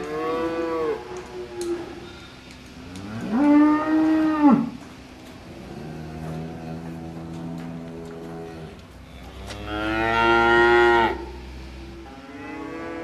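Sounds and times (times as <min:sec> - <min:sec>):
cows mooing: 0:00.0 - 0:04.8, 0:05.5 - 0:13.0.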